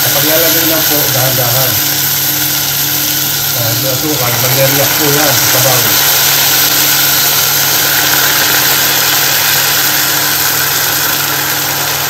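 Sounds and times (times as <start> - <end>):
broth sizzling and bubbling: 0.0 - 12.0.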